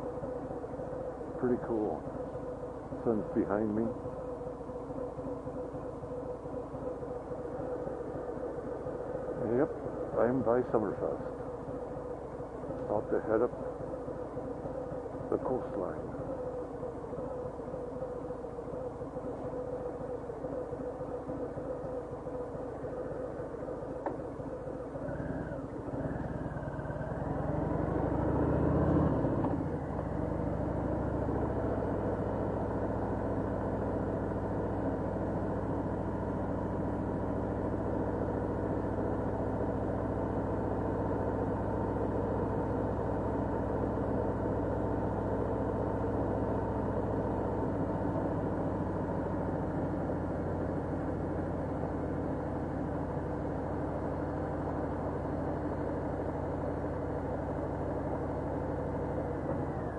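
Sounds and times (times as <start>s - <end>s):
motorcycle engine accelerating: 2.9s - 59.9s.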